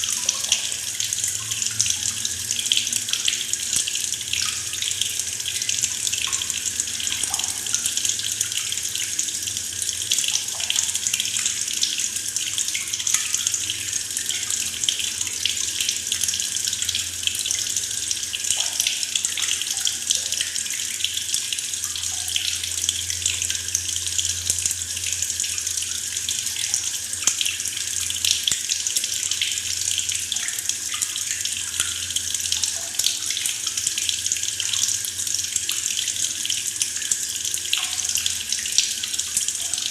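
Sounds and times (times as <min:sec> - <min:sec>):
tap water pouring into bucket: 0:00.0 - 0:39.9.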